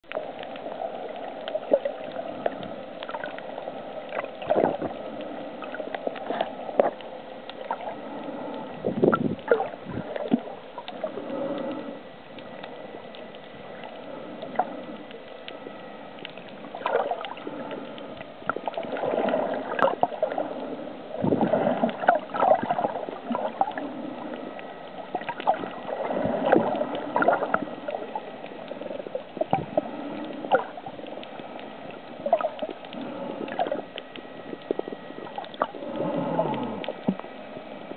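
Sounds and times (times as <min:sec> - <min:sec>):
gurgling bubbles: 0:00.0 - 0:11.9, 0:16.3 - 0:37.9
faint steady whine: 0:00.0 - 0:37.9
muffled underwater water movement: 0:00.0 - 0:37.9.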